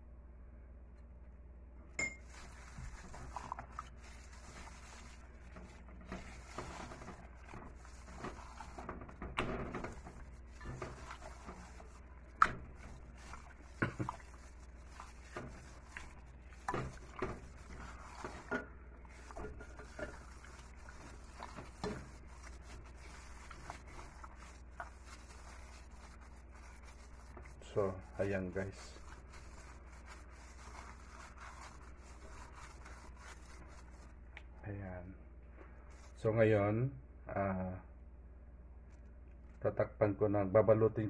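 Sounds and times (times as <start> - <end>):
low steady hum: 0.0 - 41.0
gloved hand mixing wet meat: 2.0 - 34.8, 35.7 - 36.4.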